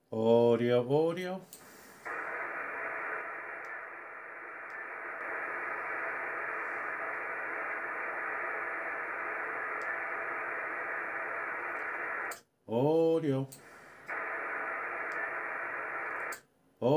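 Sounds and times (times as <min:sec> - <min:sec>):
receiver static hiss: 0:00.8 - 0:16.9.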